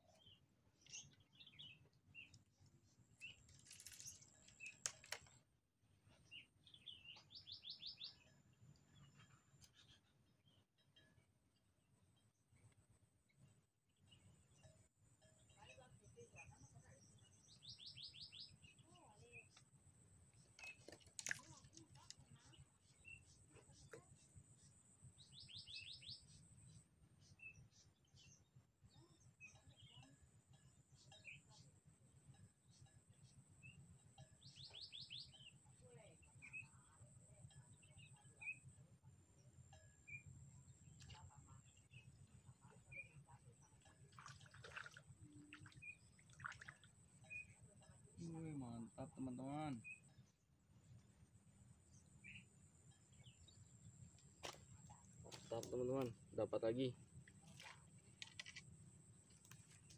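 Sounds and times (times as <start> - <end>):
faint small bird chirps: 6.1 - 12.8, 14.0 - 19.7, 20.3 - 50.4, 51.9 - 58.8.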